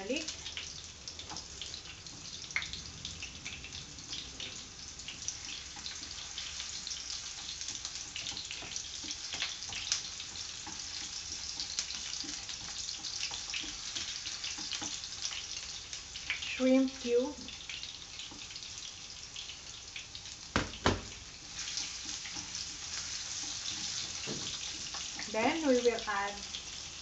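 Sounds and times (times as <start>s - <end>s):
garlic sizzling in hot oil: 0.0s - 27.0s.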